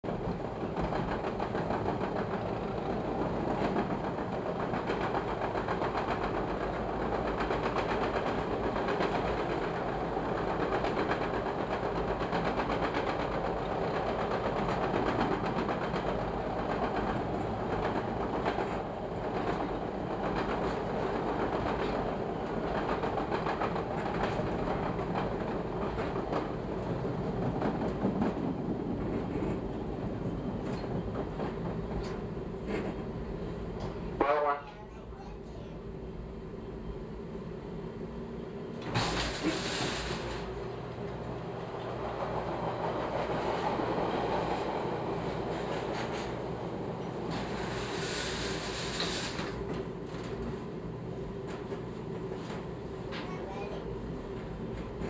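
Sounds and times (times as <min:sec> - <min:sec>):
train wheels rumbling on tracks: 0:00.0 - 0:55.0.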